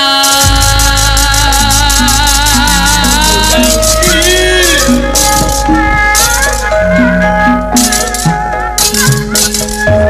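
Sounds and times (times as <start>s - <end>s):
gliding melody line: 0.0s - 10.0s
metal plates clashing: 0.0s - 10.0s.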